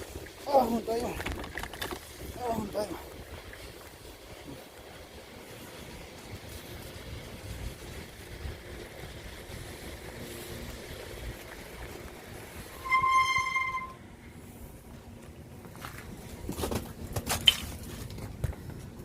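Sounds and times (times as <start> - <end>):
wind rumble on microphone: 0.0 - 17.2.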